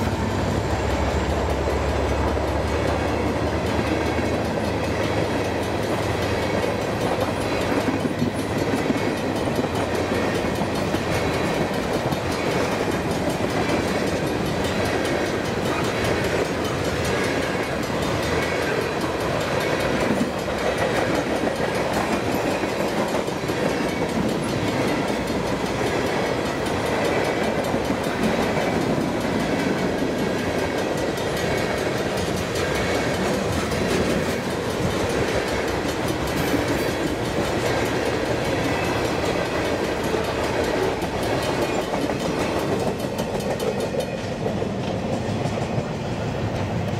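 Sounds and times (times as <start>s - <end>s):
freight train wheels on rails: 0.0s - 46.9s.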